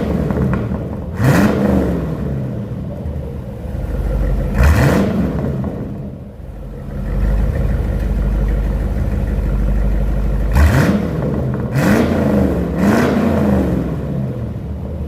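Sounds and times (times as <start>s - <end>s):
engine revving in throttle blips: 0.0s - 2.8s, 3.6s - 15.0s
car engine idling: 0.0s - 15.0s.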